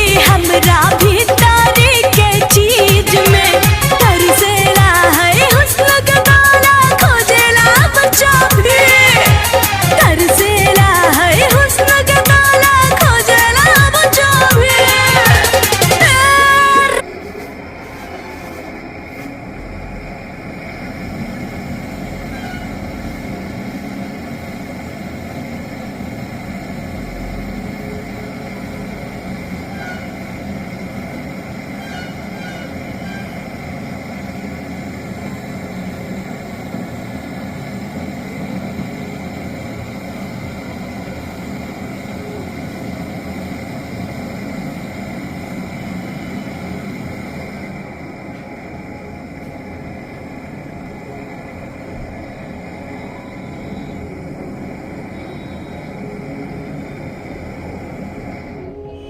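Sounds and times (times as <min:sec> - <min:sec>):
freezer compressor humming: 0:00.0 - 0:59.0.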